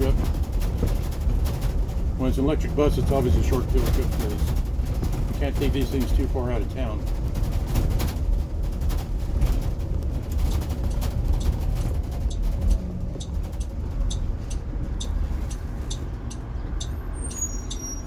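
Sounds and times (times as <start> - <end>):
bus driving with road rumble: 0.0 - 18.0.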